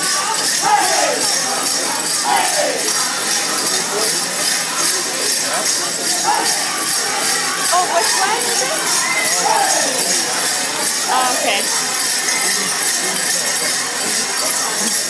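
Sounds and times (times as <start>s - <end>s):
ankle bells jingling: 0.0s - 15.0s
singers' voices: 0.0s - 15.0s.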